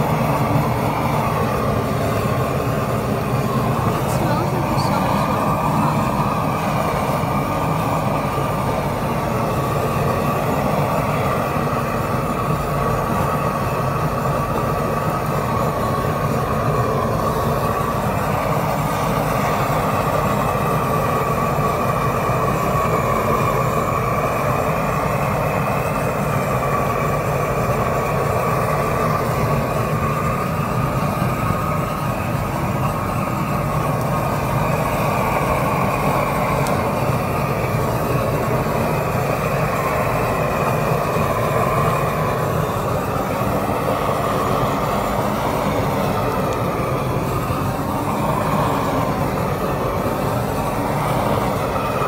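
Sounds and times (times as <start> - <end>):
gas torch flame burning: 0.0 - 52.0.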